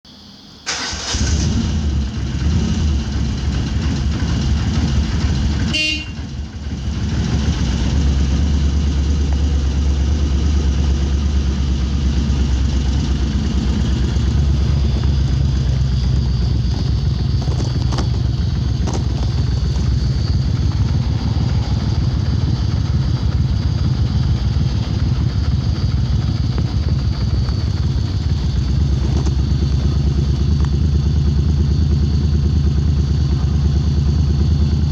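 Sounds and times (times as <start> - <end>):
motorcycle engine running: 0.8 - 34.9.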